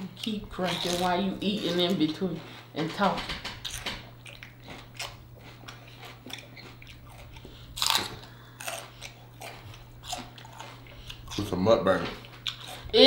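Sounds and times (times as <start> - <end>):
celery crunching: 0.0 - 2.2, 3.6 - 13.0.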